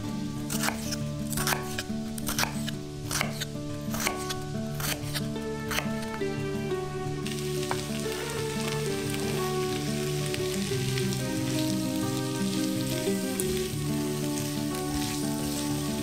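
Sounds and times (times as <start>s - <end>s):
soft background music: 0.0s - 16.0s
vegetables sizzling in oil: 0.0s - 16.0s.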